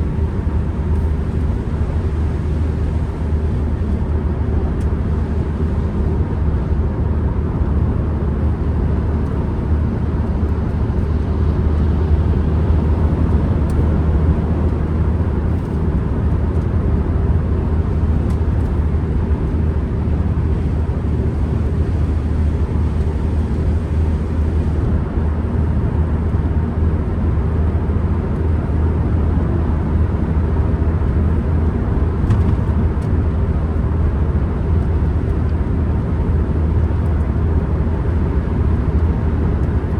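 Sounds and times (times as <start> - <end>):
van driving interior drone: 0.0 - 39.9.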